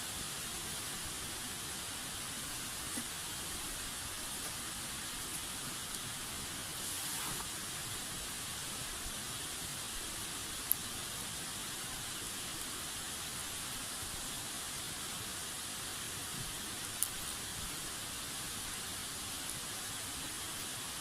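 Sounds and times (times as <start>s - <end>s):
wood fire burning with hiss: 0.0s - 21.0s.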